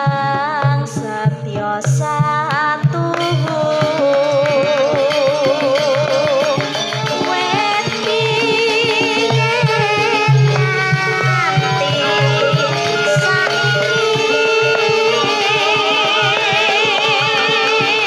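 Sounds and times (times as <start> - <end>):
woman singing with vibrato: 0.0 - 18.0
band accompaniment: 2.6 - 18.0.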